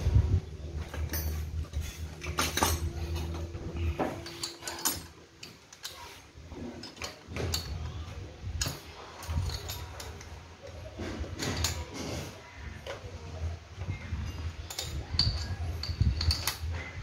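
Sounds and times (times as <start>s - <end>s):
metal parts clicking and scraping: 0.0s - 17.0s.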